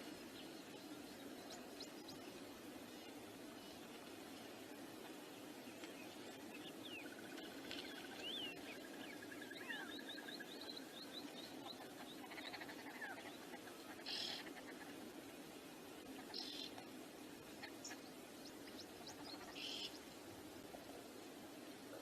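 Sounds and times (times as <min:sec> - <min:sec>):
low background rush: 0:00.0 - 0:22.0.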